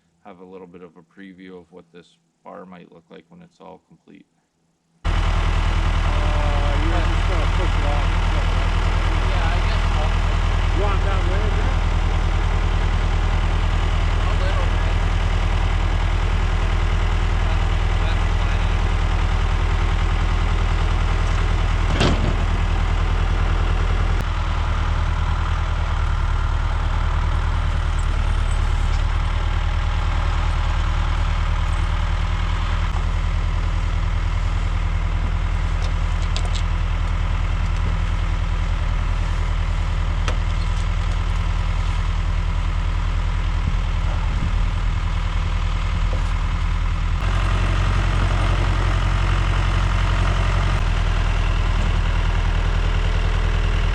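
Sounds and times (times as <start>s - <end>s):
tractor engine idling: 5.1s - 53.9s.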